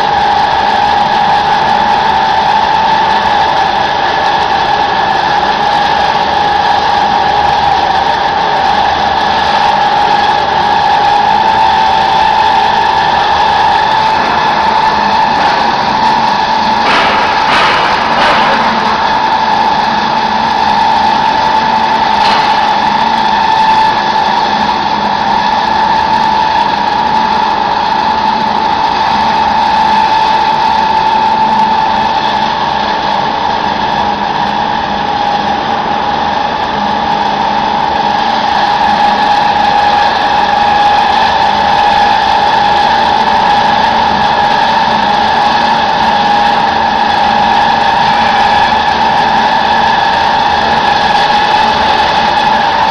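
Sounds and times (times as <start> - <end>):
pellet mill machine whine: 0.0 - 52.9.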